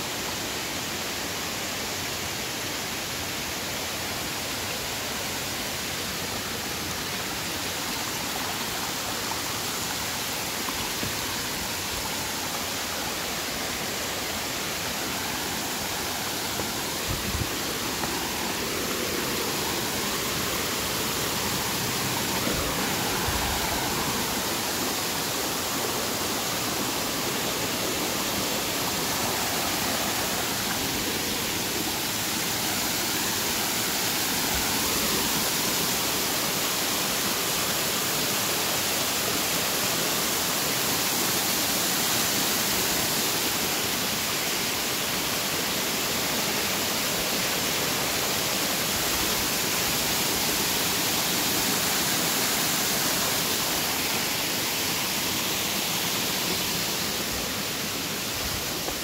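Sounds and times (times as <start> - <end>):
waterfall splashing over rocks: 0.0 - 59.0.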